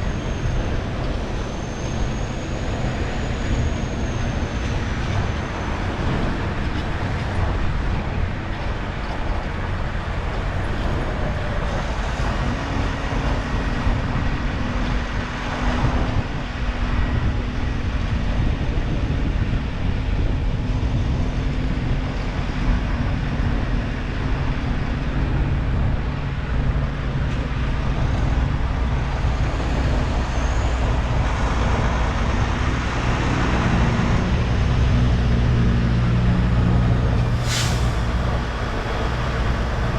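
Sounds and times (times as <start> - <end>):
diesel truck engine running: 0.0 - 39.9
road and traffic noise: 0.0 - 39.9.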